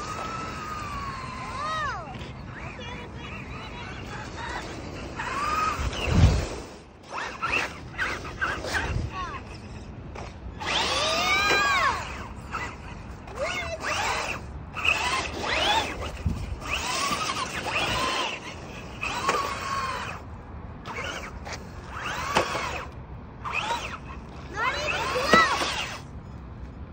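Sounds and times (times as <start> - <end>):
electric motor whining in bursts: 0.0 - 26.1.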